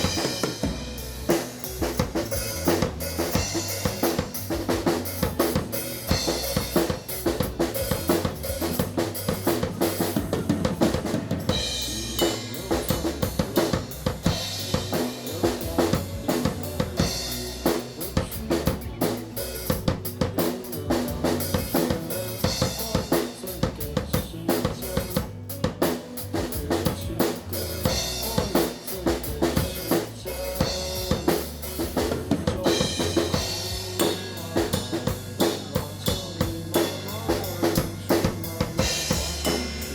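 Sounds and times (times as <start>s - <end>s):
drum kit beat: 0.0s - 39.9s
rock band music: 0.0s - 39.9s.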